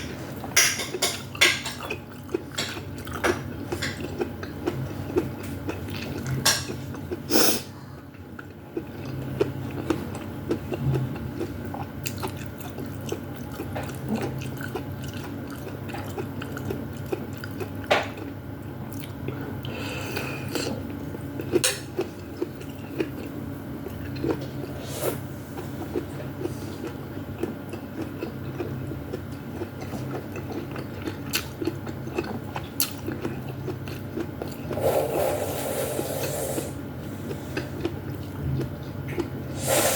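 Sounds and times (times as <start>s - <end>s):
low steady hum: 0.0s - 39.9s
chewing food: 0.2s - 35.0s, 37.1s - 39.5s.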